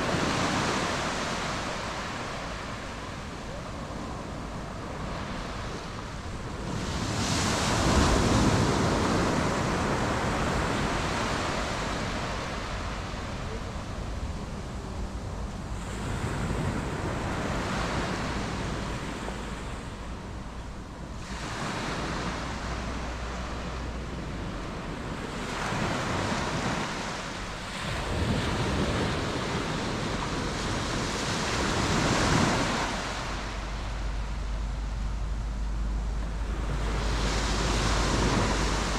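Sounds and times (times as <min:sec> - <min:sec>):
waves breaking on beach: 0:00.0 - 0:38.9
wind rumble on microphone: 0:00.0 - 0:38.9.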